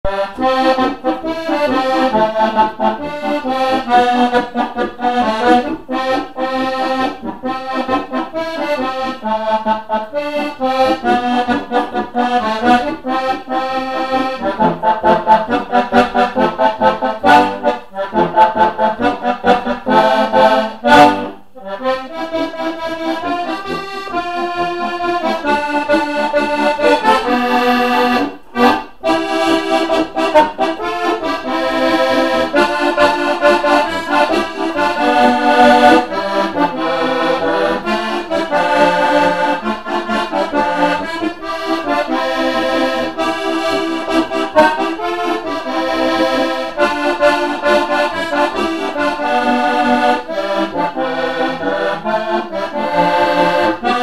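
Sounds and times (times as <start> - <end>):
button accordion playing a tune: 0.0 - 54.0.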